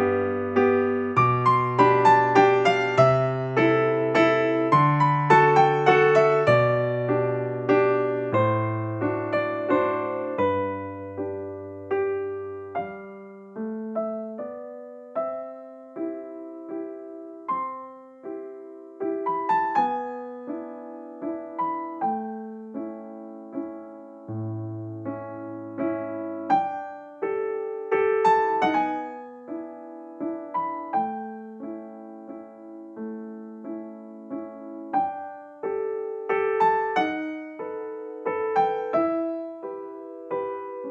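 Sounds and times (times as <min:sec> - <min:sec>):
soft piano music: 0:00.0 - 0:40.9.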